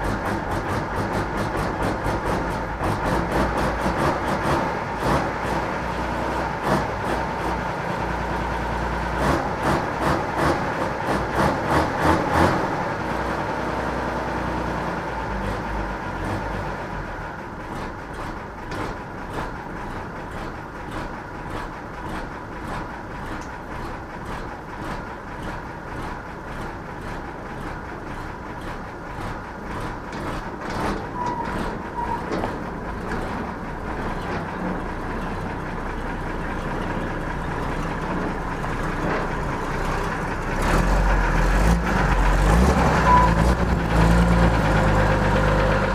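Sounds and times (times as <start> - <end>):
diesel engine clattering: 0.0 - 45.9.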